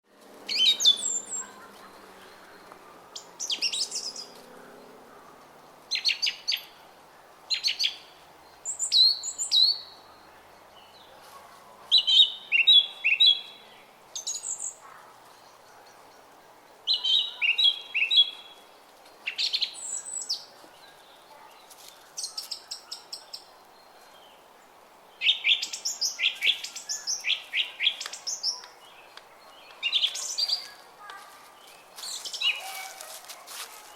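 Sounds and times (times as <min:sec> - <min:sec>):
low background noise: 0:00.1 - 0:33.9
songbirds chirping: 0:00.1 - 0:33.9.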